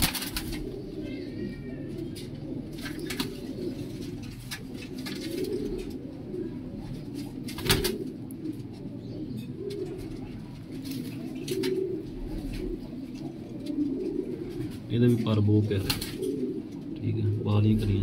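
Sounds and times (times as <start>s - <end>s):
clicks and rustles of handled pigeon: 0.0s - 1.1s, 1.9s - 17.1s
pigeons cooing: 0.0s - 18.0s.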